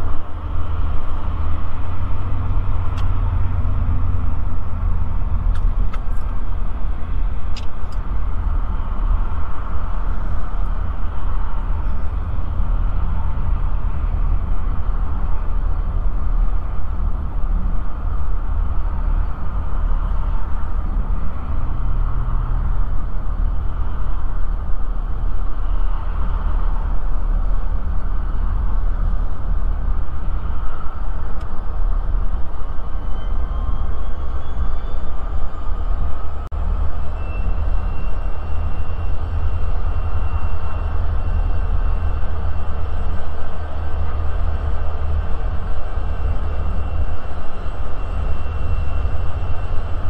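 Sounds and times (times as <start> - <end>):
car road noise and wind: 0.0 - 50.0
diesel locomotives: 0.0 - 50.0
faint rising whine: 0.0 - 50.0.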